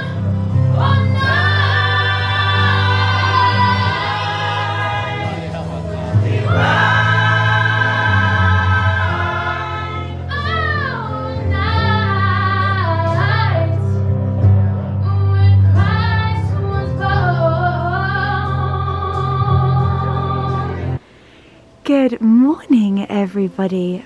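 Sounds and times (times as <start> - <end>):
gospel choir singing: 0.0 - 14.0, 15.8 - 21.0.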